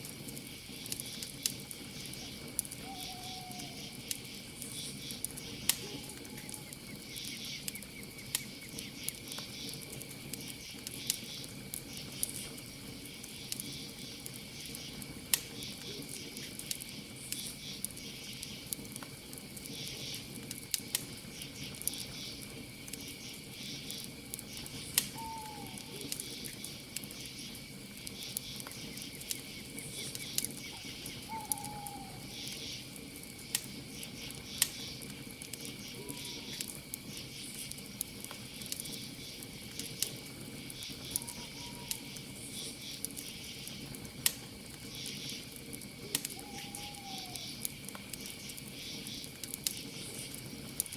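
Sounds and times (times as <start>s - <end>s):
campfire crackling and popping: 0.0s - 50.9s
cricket trill: 0.1s - 50.9s
insect chirping: 0.3s - 20.4s, 21.0s - 50.9s.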